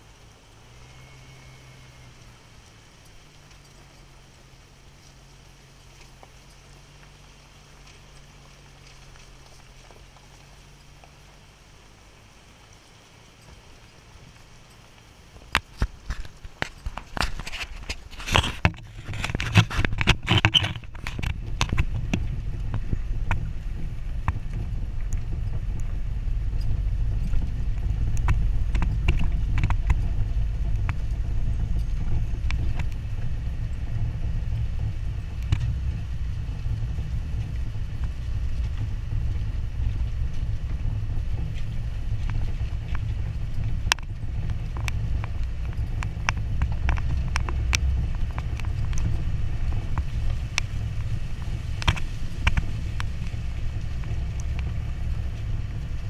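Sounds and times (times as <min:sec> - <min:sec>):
low engine drone: 0:00.0 - 0:56.0
tyres and body rattling: 0:00.0 - 0:56.0.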